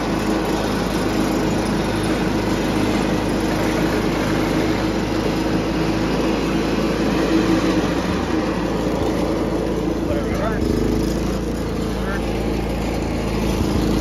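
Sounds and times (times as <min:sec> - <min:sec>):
garden tractor engine running: 0:00.0 - 0:14.0.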